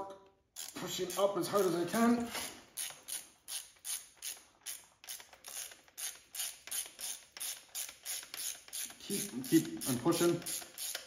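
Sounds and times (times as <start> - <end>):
socket ratchet clicking: 0.6 - 1.3, 2.7 - 11.0.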